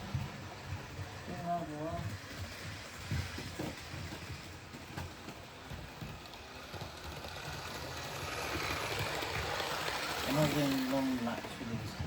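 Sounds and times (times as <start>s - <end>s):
model train rumbling on rails: 0.0s - 12.0s
small clicks of train wheels: 2.0s - 12.0s.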